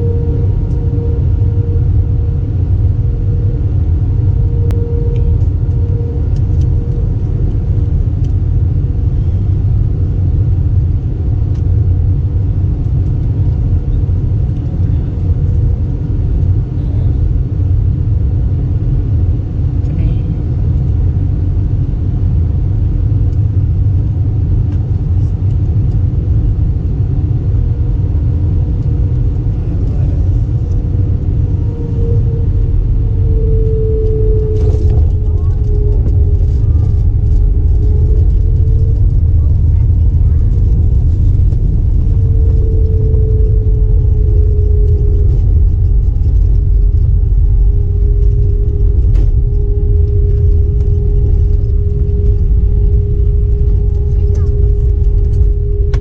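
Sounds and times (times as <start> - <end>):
aircraft cabin engine rumble: 0.0 - 56.0
steady hum tones: 0.0 - 56.0.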